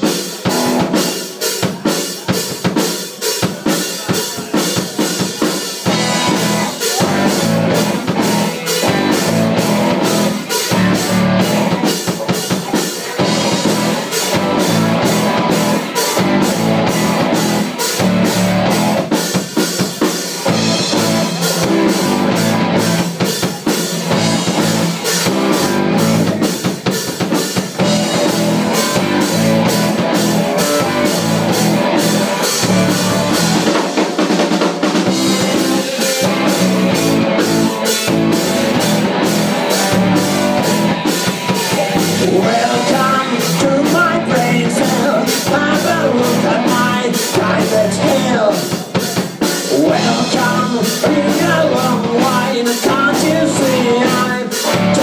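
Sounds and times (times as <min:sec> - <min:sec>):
distorted electric guitars: 0:00.0 - 0:55.0
drum kit steady beat: 0:00.0 - 0:55.0
electric bass: 0:05.8 - 0:12.5, 0:13.2 - 0:19.4, 0:20.4 - 0:26.7, 0:27.6 - 0:33.8, 0:34.9 - 0:48.7, 0:49.7 - 0:55.0.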